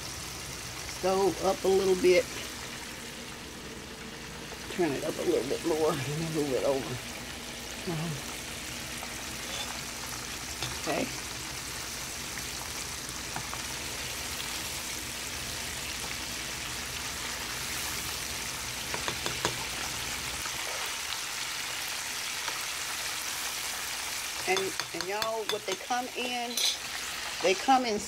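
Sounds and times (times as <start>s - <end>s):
fish deep-frying in oil: 0.0s - 28.0s.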